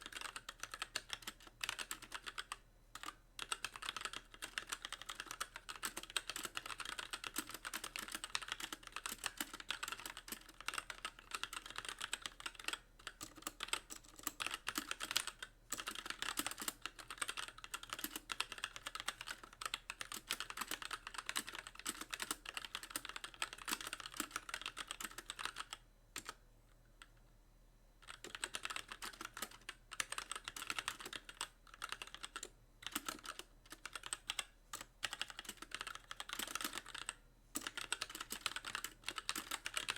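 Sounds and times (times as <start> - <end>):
fast typing on mechanical keyboard: 0.0 - 26.4, 28.0 - 39.9.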